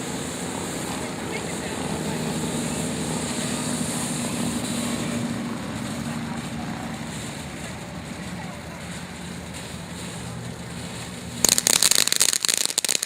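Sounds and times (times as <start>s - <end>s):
fountain firework hissing: 0.0s - 13.0s.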